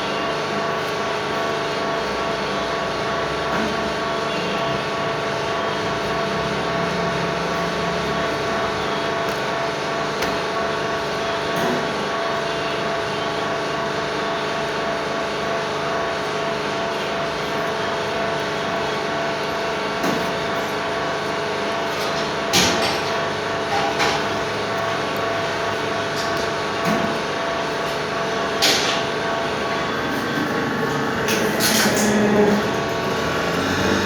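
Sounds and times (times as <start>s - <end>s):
machine running with hum: 0.0s - 34.0s.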